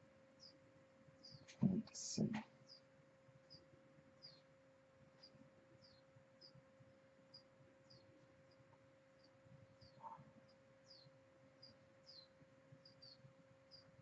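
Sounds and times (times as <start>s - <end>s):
steady low hum: 0.0s - 14.0s
faint high chirps: 0.3s - 1.9s, 2.6s - 14.0s.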